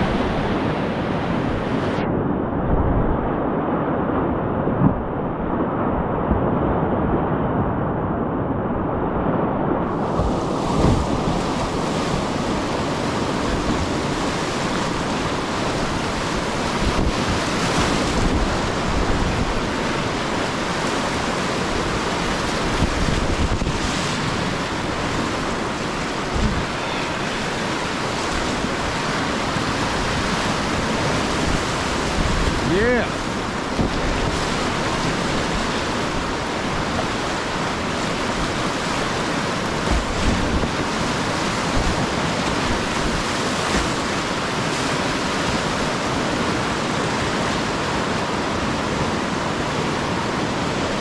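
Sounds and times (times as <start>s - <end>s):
river whitewater rushing: 0.0s - 4.6s, 7.8s - 51.0s
wind on microphone: 0.0s - 51.0s.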